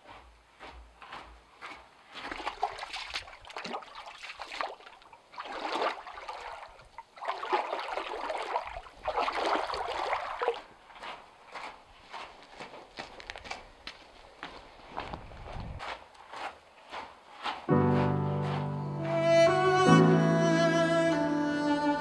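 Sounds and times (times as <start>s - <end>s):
footsteps splashing through water: 0.0s - 19.2s.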